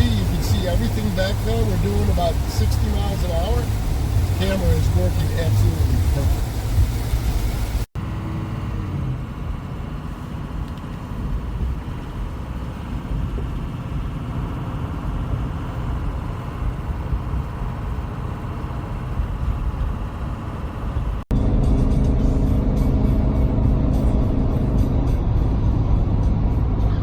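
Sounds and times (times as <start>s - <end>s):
vehicle road noise at speed: 0.0s - 27.0s.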